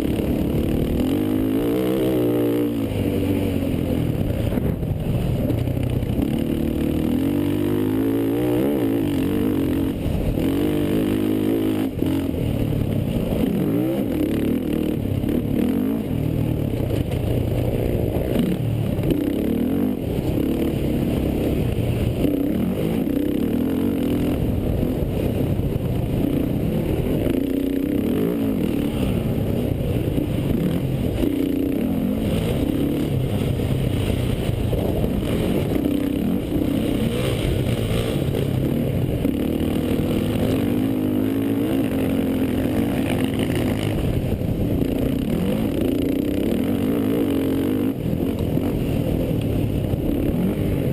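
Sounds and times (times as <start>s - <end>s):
quad engines revving: 0.0s - 5.0s, 5.6s - 50.9s.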